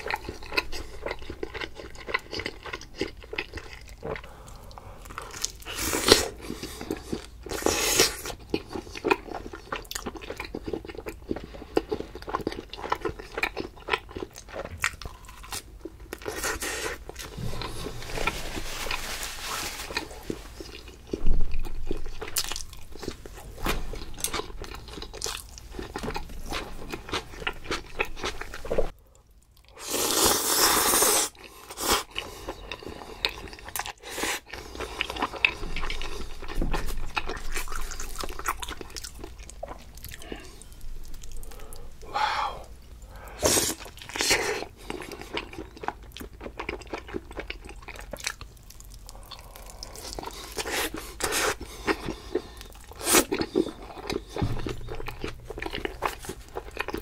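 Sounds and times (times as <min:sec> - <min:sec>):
crunchy chewing of food: 0:00.0 - 0:57.0.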